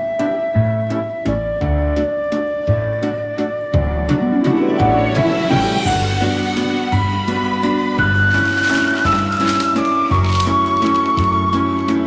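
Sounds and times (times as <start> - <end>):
gentle melody over bass line: 0.0 - 12.0.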